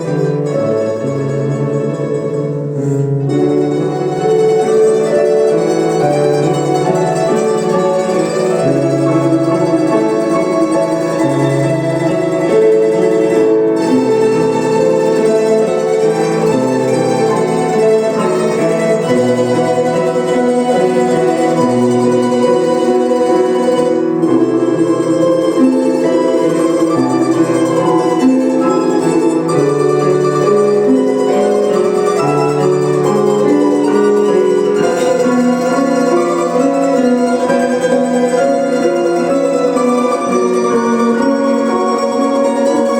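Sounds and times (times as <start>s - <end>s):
plucked lutes ensemble playing: 0.0s - 42.9s.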